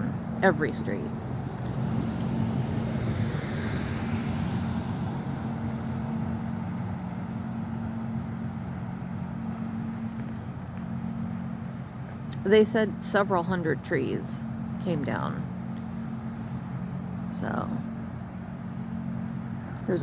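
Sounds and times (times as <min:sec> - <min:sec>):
low motor hum with road noise: 0:00.0 - 0:20.0
vehicle passing: 0:00.0 - 0:20.0.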